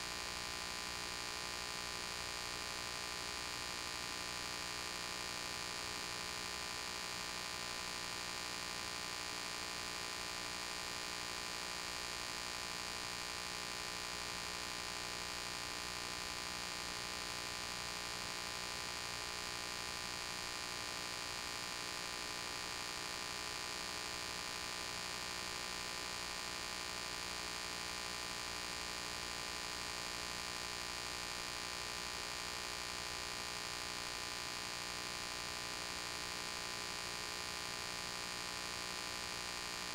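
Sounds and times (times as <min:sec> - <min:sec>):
electrical mains hum with hiss: 0:00.0 - 0:39.9.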